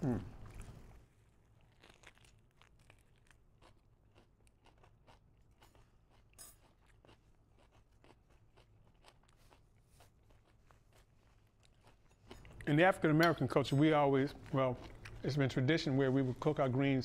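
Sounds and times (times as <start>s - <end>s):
people crunching and chewing: 0.0s - 17.0s.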